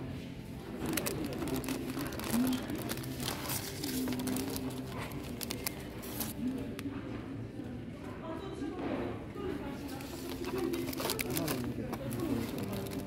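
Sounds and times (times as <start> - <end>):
indistinct background voices: 0.0 - 13.0.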